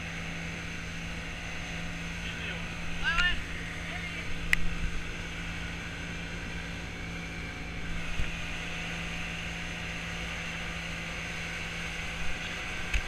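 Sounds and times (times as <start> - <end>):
boat wake rushing: 0.0 - 13.0
outboard motor hum: 0.0 - 13.0.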